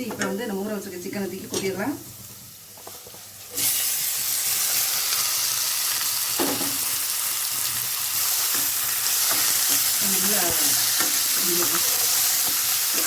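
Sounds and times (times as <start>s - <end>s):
chicken sizzling in hot oil: 1.9s - 13.0s.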